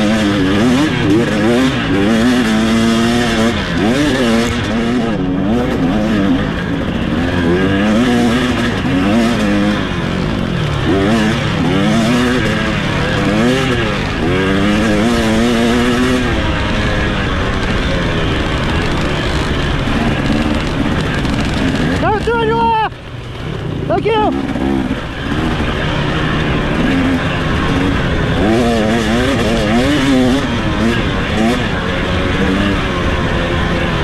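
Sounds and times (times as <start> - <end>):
racing engine revving: 0.0 - 34.0.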